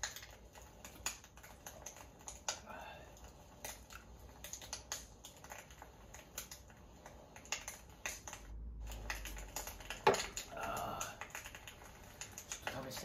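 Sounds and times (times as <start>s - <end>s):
small clicks and crackles: 0.0s - 13.0s.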